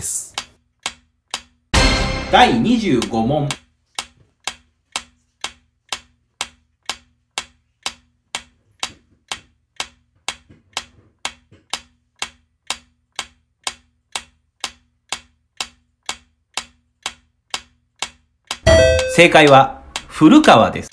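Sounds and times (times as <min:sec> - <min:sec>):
timer ticking: 0:00.0 - 0:20.9.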